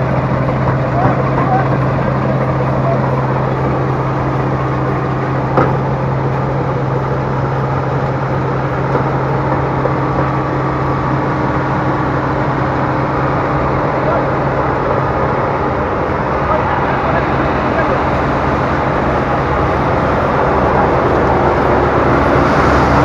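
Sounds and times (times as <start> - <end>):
harvesting machine engine hum: 0.0 - 23.0.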